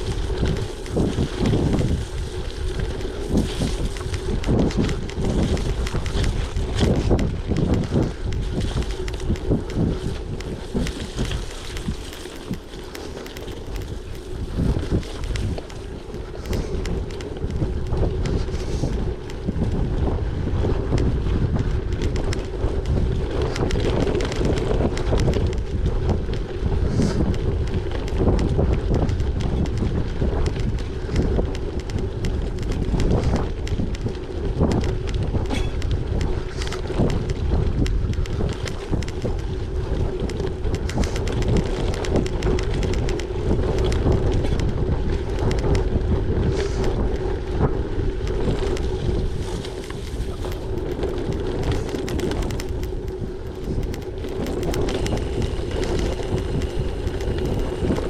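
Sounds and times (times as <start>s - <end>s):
bike knocks and rattles: 0.0s - 58.0s
bike tyres rolling on gravel: 0.0s - 58.0s
wind buffeting microphone: 0.0s - 58.0s.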